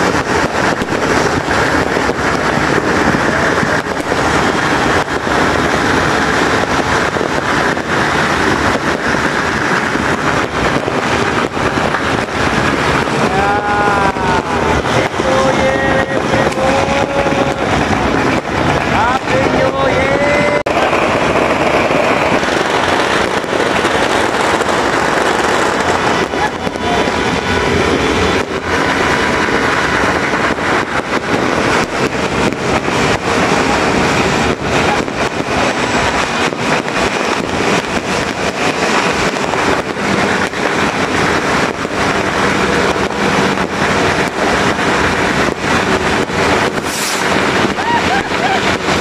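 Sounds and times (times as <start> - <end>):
firecrackers sharp bangs: 0.0 - 49.0
fireworks crackling: 0.0 - 49.0.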